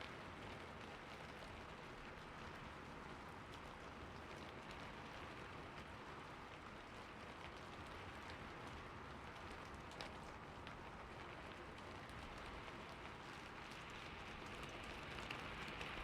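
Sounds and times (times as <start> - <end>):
raindrops ticking on a surface: 0.0 - 16.0.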